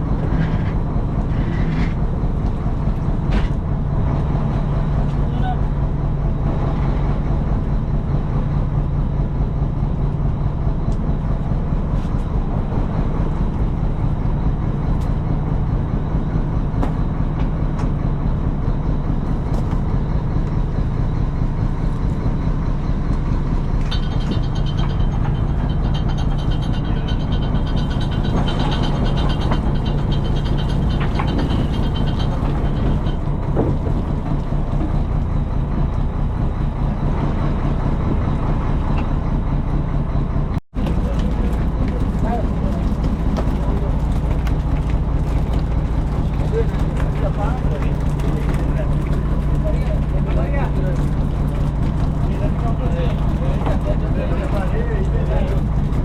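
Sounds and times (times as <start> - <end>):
boat engine humming: 0.0 - 56.0.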